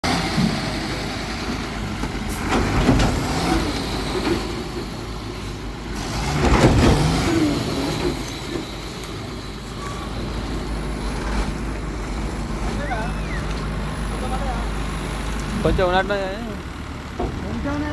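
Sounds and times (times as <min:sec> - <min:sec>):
heavy diesel machinery running: 0:00.0 - 0:17.9.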